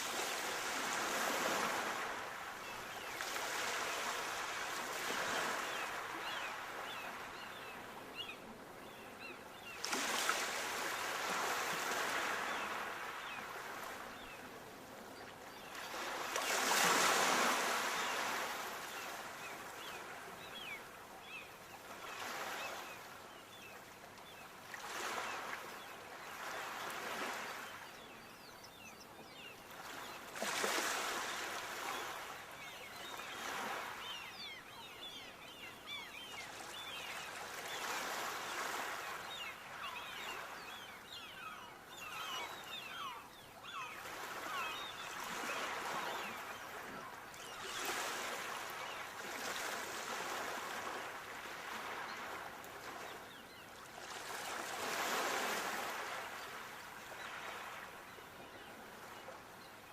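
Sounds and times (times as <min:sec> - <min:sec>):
sea waves breaking on shore: 0:00.0 - 0:08.3, 0:09.6 - 0:14.4, 0:15.5 - 0:23.6, 0:29.3 - 0:59.9.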